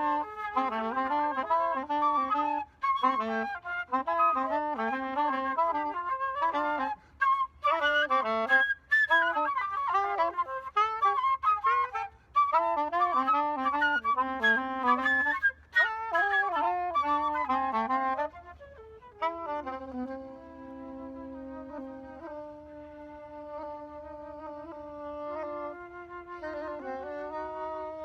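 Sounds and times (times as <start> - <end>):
woodwind instruments playing lively tune: 0.0 - 28.0.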